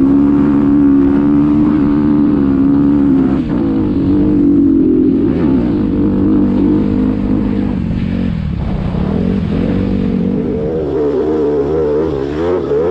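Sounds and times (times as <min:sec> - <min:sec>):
off-road vehicle engine revving: 0:00.0 - 0:12.9.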